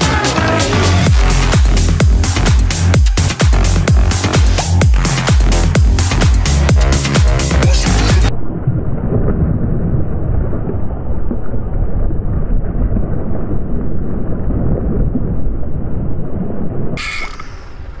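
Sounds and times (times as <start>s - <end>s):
loud uneven low rumble: 0.0s - 15.4s.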